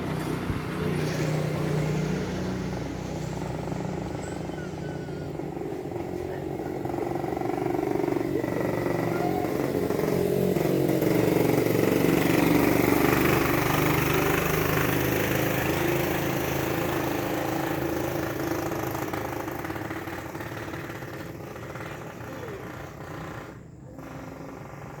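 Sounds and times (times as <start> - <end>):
motorcycle engine passing by: 0.0 - 25.0.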